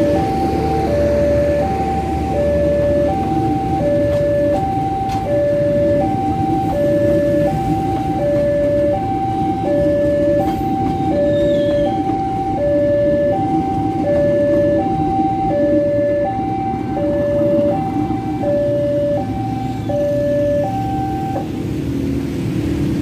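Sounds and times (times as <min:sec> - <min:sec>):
level crossing two-tone alarm: 0:00.0 - 0:21.5
train coaches rumbling past: 0:00.0 - 0:23.0.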